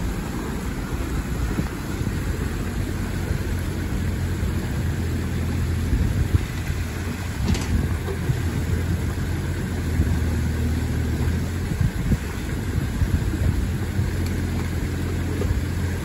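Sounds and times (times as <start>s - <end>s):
excavator diesel engine running: 0.0s - 16.0s
water rushing: 0.0s - 16.0s.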